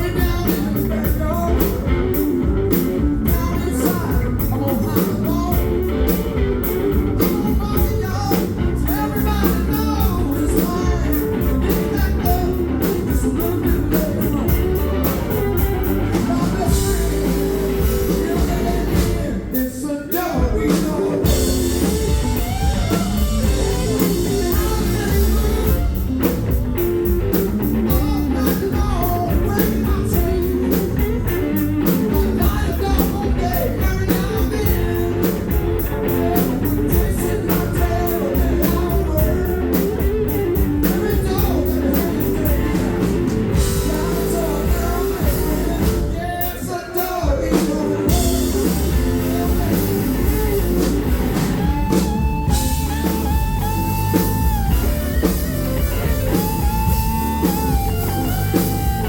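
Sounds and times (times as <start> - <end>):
drums: 0.0 - 59.0
electric guitar: 0.0 - 59.0
sung vocals: 0.0 - 59.0.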